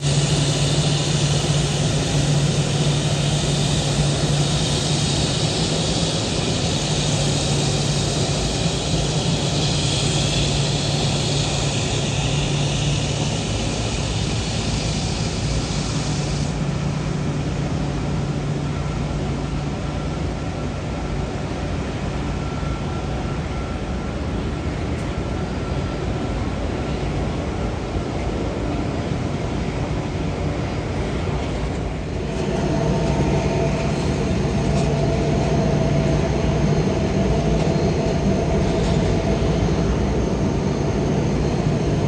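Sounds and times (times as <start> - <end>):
jet engines running: 0.0 - 42.0.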